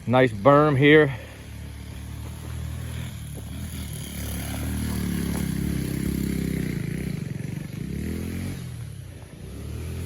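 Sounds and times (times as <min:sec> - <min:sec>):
small motorcycle engine revving: 0:01.3 - 0:10.0.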